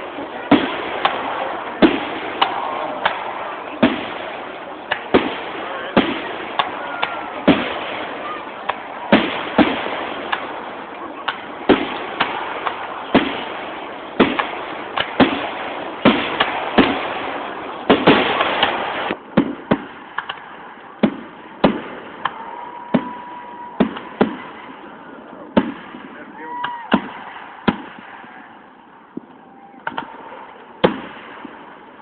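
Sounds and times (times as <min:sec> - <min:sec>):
firework bangs: 0:00.0 - 0:32.0
fireworks crackling hiss: 0:00.0 - 0:32.0.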